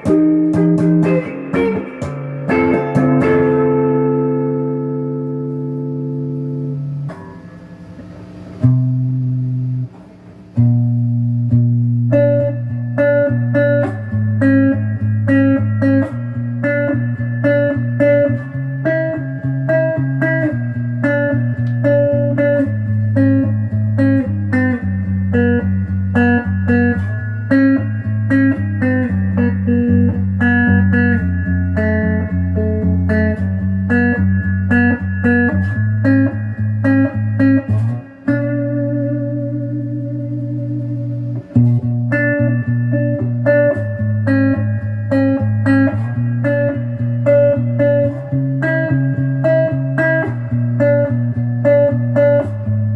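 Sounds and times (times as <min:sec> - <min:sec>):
electric guitar riff: 0:00.0 - 0:52.9.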